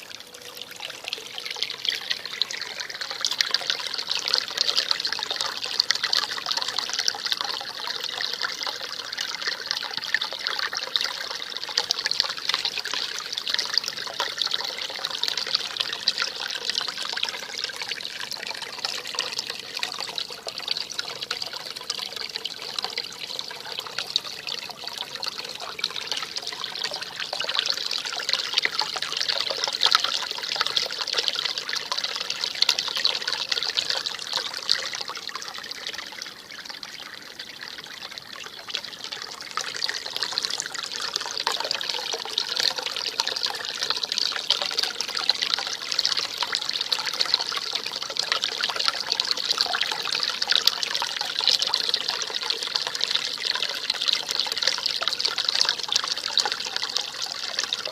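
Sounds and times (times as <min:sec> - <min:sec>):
stream babbling: 0:00.0 - 0:57.9.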